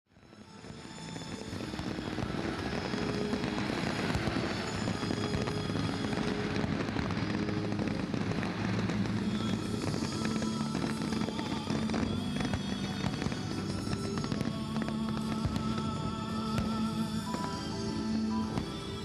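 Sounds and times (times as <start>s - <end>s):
fireworks crackling: 0.1s - 19.0s.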